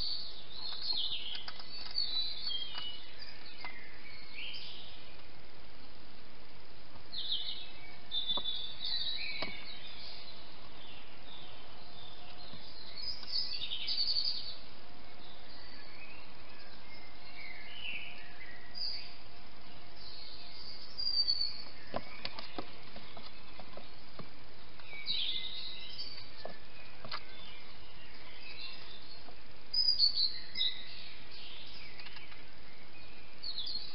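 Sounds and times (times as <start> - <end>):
songbirds singing and chirping: 0.0 - 33.9.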